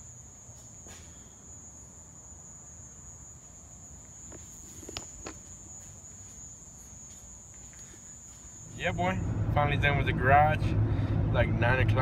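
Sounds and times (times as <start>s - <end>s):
crickets trilling: 0.0s - 10.1s.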